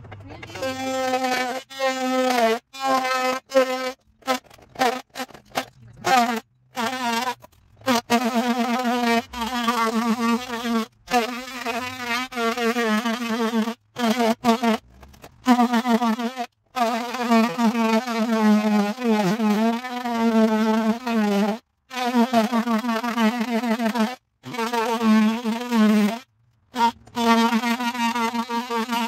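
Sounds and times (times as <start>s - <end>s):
oscillating tool cutting siding: 0.0s - 29.0s.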